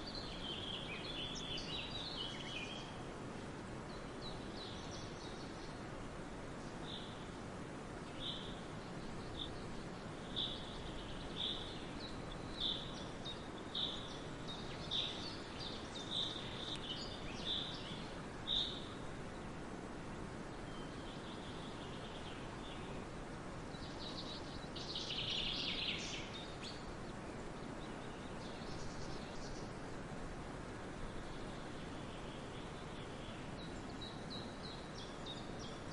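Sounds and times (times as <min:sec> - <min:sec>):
background hiss: 0:00.0 - 0:35.9.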